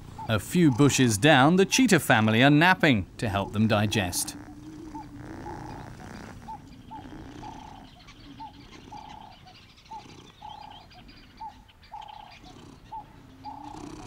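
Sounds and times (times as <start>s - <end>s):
bird calling: 0.0s - 14.0s.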